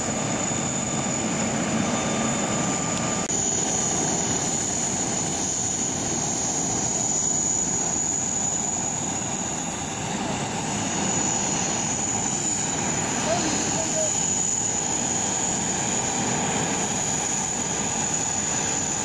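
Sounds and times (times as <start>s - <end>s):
aircraft rolling under tow: 0.0s - 19.0s
high whine: 0.0s - 19.0s.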